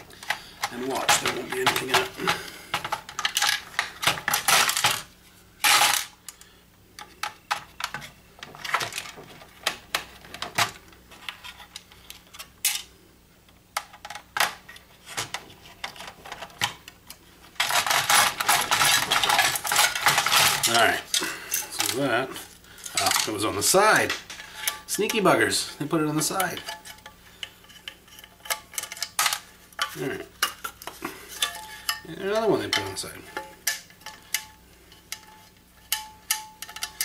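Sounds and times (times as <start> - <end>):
plastic parts rattling: 0.0 - 6.4, 7.0 - 12.9, 13.8 - 37.0.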